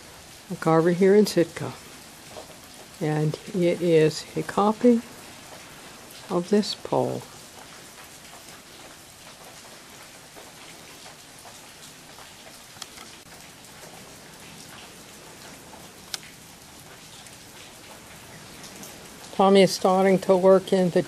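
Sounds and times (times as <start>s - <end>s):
outdoor ambience hiss: 0.0s - 21.0s.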